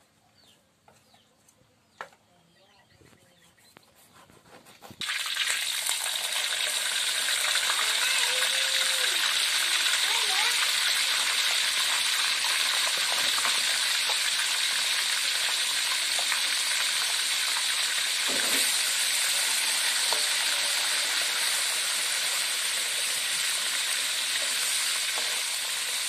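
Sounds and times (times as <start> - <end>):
fish sizzling in hot oil: 5.0 - 26.0.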